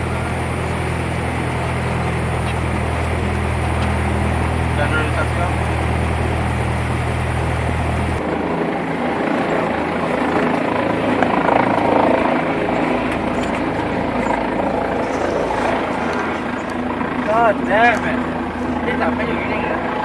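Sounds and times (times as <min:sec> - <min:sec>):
propeller engine droning: 0:00.0 - 0:20.0.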